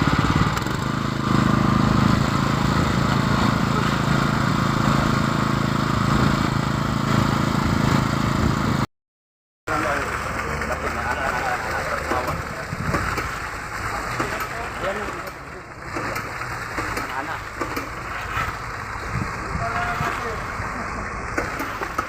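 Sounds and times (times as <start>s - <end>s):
concrete pump engine running: 0.0s - 8.9s, 9.7s - 22.0s.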